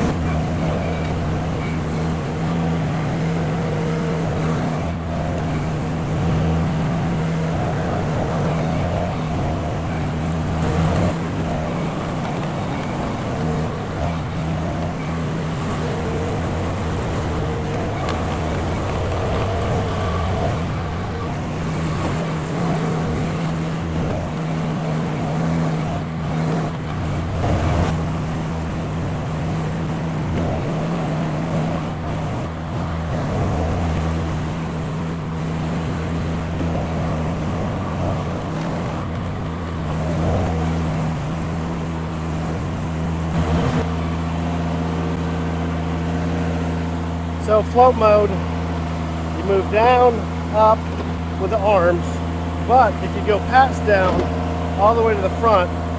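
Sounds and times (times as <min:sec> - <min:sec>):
skid steer engine running: 0:00.0 - 0:55.9.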